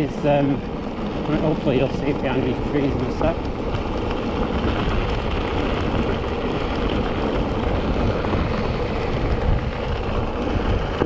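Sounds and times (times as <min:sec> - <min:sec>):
tyres rolling on gravel: 0:00.0 - 0:11.0
wind buffeting microphone: 0:00.0 - 0:11.0.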